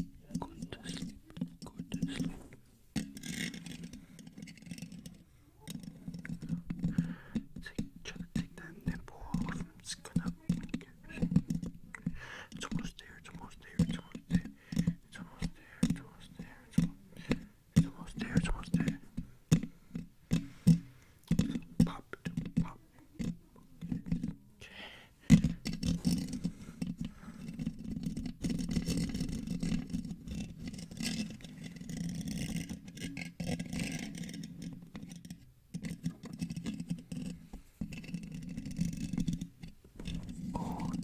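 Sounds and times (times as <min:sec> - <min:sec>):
fingers scratching a microphone: 0:00.0 - 0:24.4, 0:25.3 - 0:41.0.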